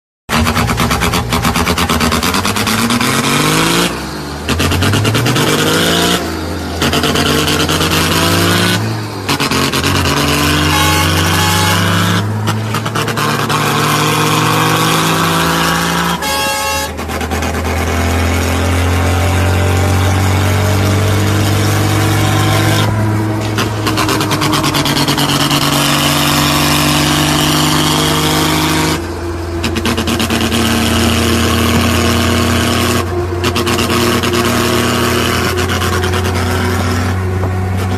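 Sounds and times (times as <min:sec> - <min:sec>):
horn toot: 0:00.3 - 0:37.9
truck diesel engine accelerating: 0:00.3 - 0:37.9.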